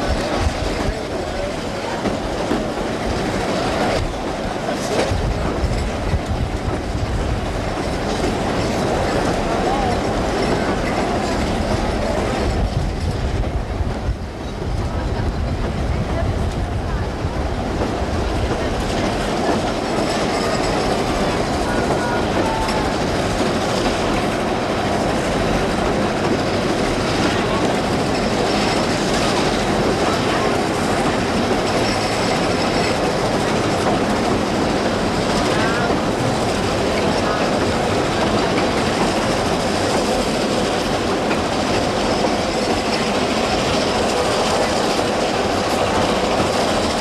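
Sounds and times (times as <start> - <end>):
train wheels clattering on rails: 0.0 - 47.0.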